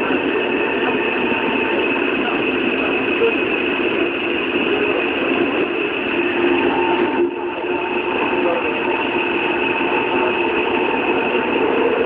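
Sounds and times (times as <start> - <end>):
subway train wheels on rails: 0.0 - 12.0.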